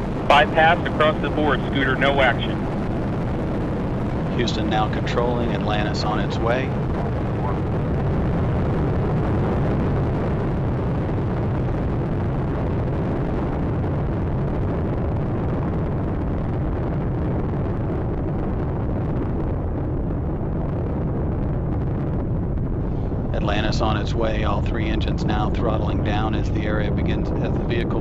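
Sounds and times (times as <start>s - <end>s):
rocket engines rumbling: 0.0s - 28.0s.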